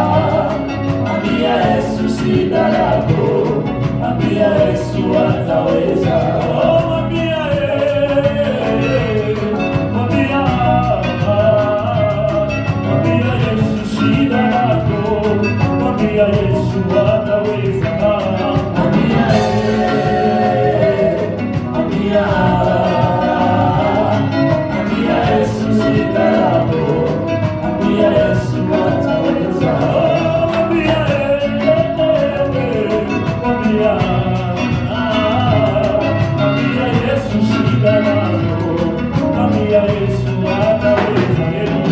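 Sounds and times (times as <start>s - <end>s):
band with steady beat: 0.0s - 41.9s
voices singing together: 0.0s - 41.9s.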